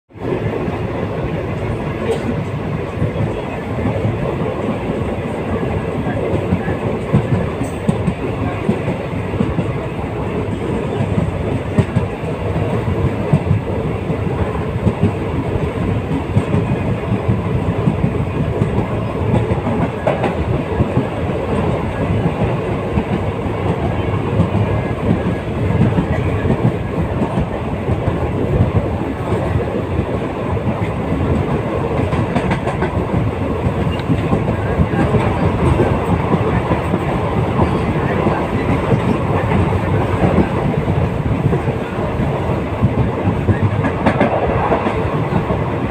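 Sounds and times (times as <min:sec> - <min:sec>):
train running on rails: 0:00.1 - 0:45.9.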